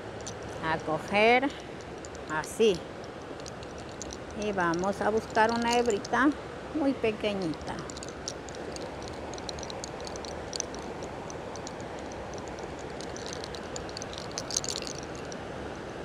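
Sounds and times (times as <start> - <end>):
hair crackling: 0.0 - 6.4, 7.0 - 15.4
river rushing: 0.0 - 16.0.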